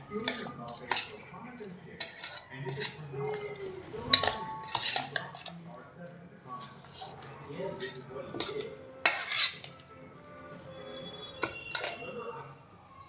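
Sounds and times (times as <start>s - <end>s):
metal utensils clinking on dishes: 0.1s - 5.7s, 6.5s - 12.4s.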